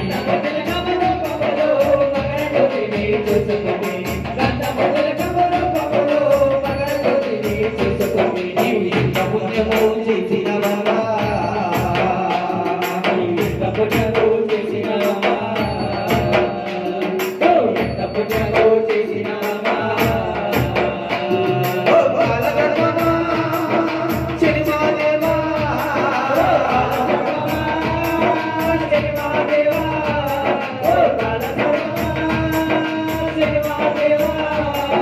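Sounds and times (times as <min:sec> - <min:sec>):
hand drums: 0:00.0 - 0:35.0
man singing lead: 0:00.0 - 0:35.0.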